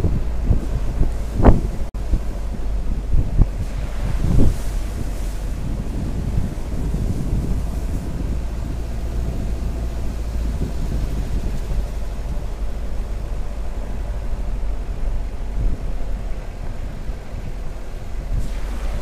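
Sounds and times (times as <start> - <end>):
engine and tyre rumble: 0.0 - 19.0
wind buffeting microphone: 0.0 - 19.0.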